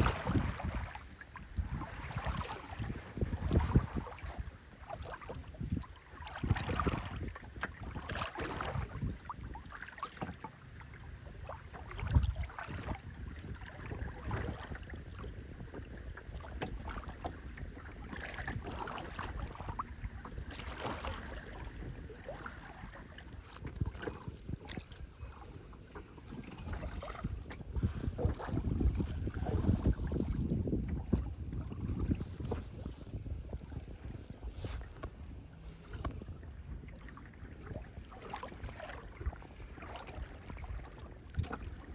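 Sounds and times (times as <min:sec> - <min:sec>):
water noise: 0:00.0 - 0:41.9
wind buffeting microphone: 0:00.0 - 0:41.9.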